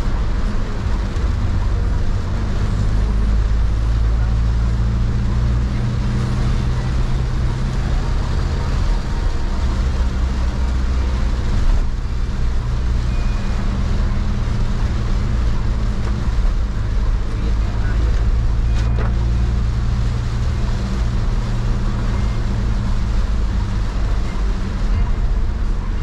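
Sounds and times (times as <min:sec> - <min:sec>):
low engine drone: 0:00.0 - 0:26.0
rain hissing: 0:00.0 - 0:26.0
wet tyres on road: 0:00.0 - 0:26.0.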